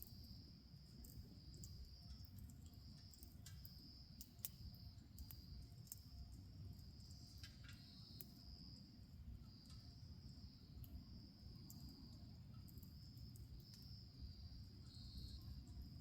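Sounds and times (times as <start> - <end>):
bonfire crackling: 0.9 - 8.4, 9.0 - 16.0.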